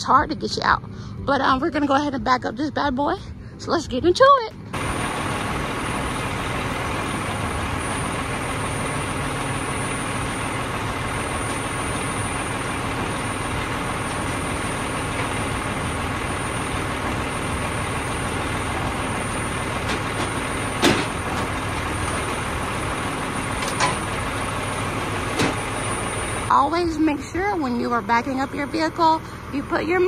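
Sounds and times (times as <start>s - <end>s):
vehicle engines running: 0.0s - 30.0s.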